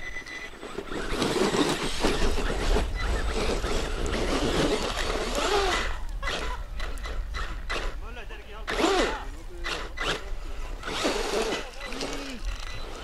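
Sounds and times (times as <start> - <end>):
rc buggy motor: 0.0 - 13.0.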